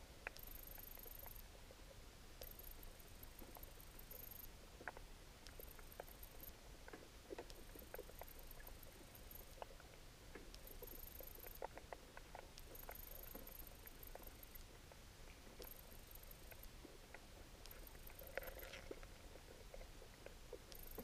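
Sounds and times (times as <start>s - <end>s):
underwater clicks and crackles: 0.2s - 21.0s.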